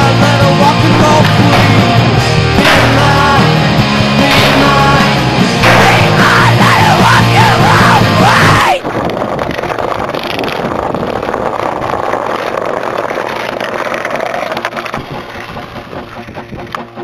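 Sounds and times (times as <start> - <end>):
skateboard wheels rolling on bricks: 0.0 - 17.0.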